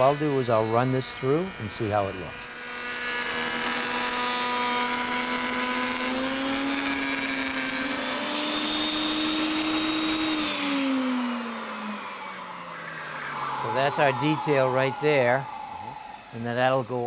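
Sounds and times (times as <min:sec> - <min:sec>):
router motor whine cutting wood: 0:00.0 - 0:17.0.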